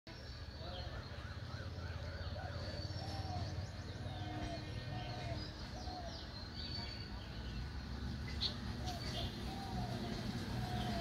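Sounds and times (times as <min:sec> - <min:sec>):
birds calling: 0:00.1 - 0:11.0.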